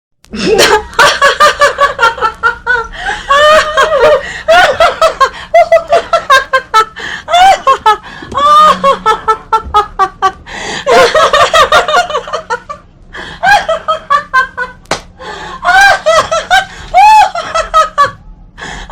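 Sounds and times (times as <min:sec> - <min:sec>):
women laughing hard: 0:00.4 - 0:18.2.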